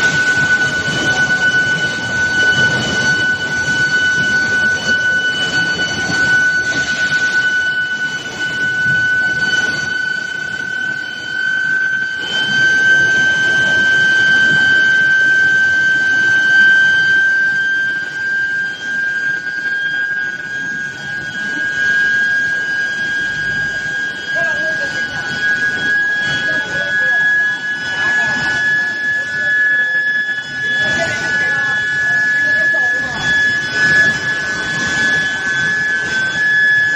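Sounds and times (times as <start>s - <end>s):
induction furnace high-pitched whine: 0.0s - 36.9s
low machinery noise: 0.0s - 36.9s.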